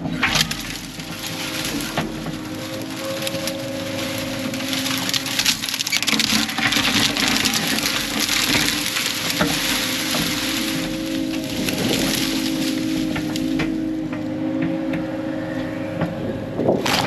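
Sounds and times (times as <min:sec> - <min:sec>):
branches cracking and splintering: 0:00.0 - 0:15.2, 0:16.6 - 0:17.0
heavy machine engine running: 0:00.0 - 0:17.0.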